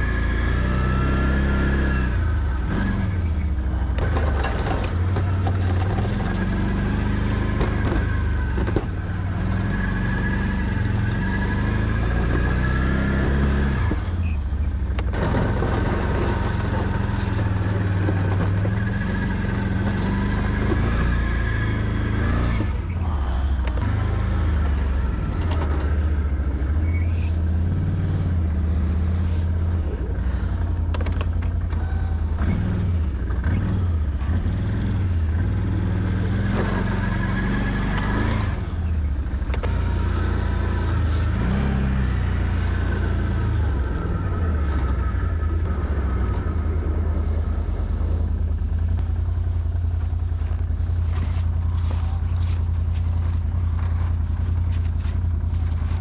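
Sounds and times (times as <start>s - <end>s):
atv engine under load: 0.0s - 56.0s.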